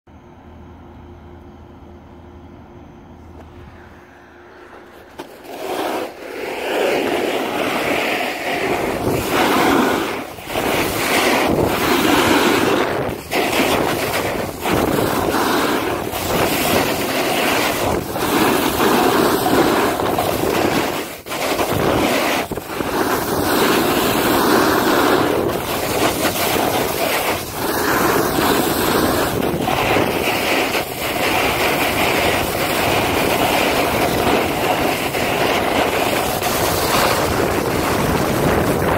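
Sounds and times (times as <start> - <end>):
skis scraping over snow: 3.6 - 38.9
wind on microphone: 3.6 - 38.9.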